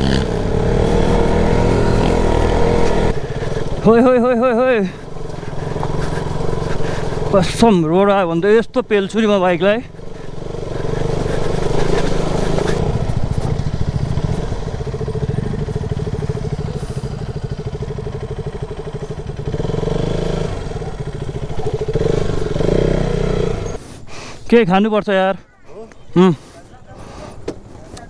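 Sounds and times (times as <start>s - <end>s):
motorcycle engine running: 0.0s - 23.8s.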